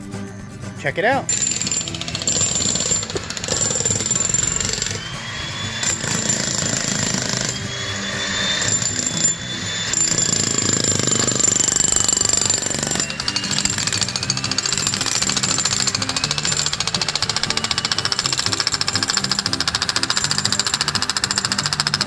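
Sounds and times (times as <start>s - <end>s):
jackhammers hammering rock: 1.3s - 22.0s.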